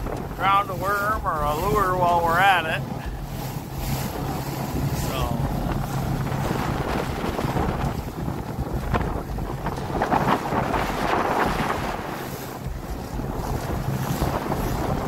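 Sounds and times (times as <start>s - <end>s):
motorboat motor hum: 0.0s - 15.0s
water splashing against hull: 0.0s - 15.0s
wind buffeting microphone: 0.0s - 15.0s.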